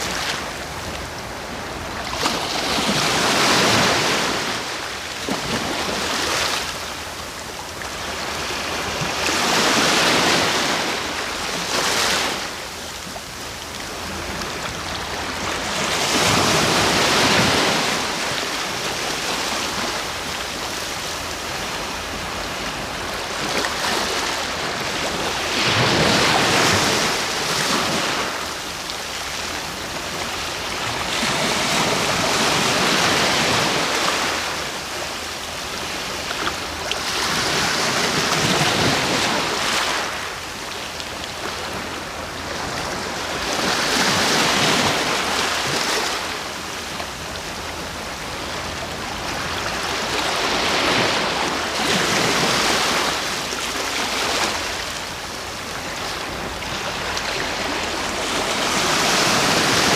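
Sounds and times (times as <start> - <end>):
sea waves washing in: 0.0 - 59.9.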